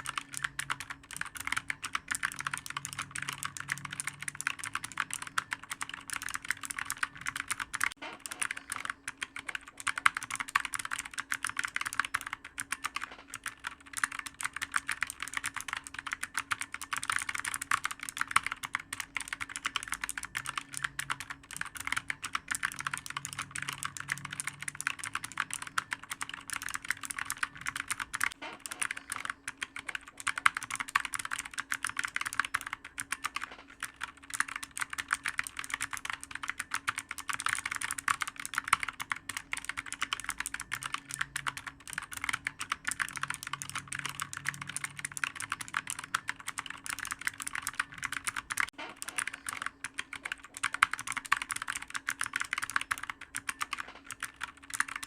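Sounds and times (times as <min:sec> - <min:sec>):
fast keyboard typing: 0:00.0 - 0:55.0.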